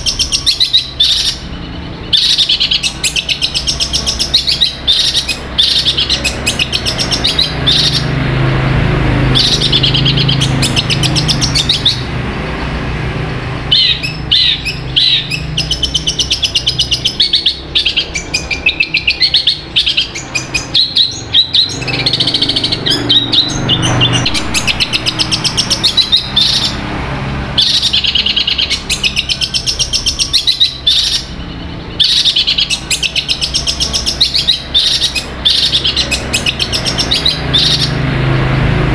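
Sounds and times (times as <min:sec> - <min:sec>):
bird chattering and trilling song: 0:00.0 - 0:12.2, 0:13.6 - 0:38.1.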